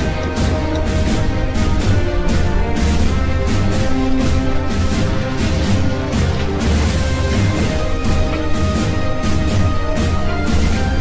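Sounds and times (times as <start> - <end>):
music with strong bass beat: 0.0 - 11.0.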